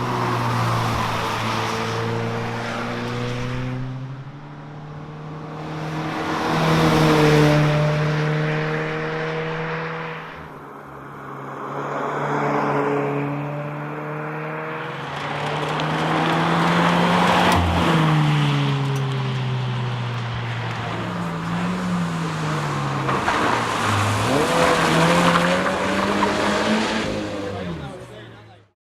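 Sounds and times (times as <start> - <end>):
car engine revving: 0.0 - 10.5, 13.1 - 28.5.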